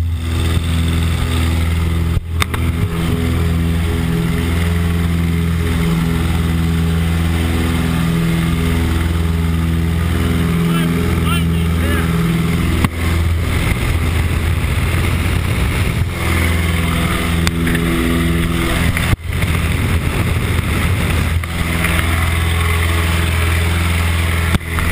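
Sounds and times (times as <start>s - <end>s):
plane engine droning: 0.0s - 24.9s
wind rush: 0.0s - 24.9s.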